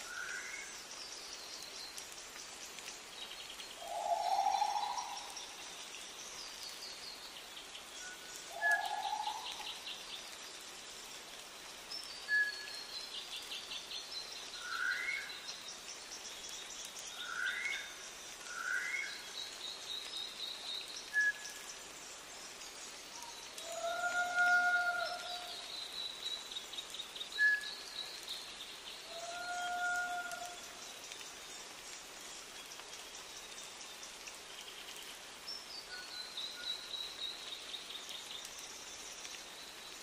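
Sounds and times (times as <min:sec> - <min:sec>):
songbirds trilling and ticking: 0:00.0 - 0:40.0.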